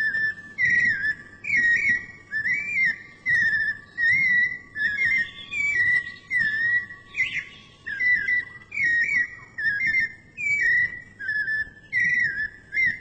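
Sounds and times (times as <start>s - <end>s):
songbird warbling: 0.0s - 13.0s.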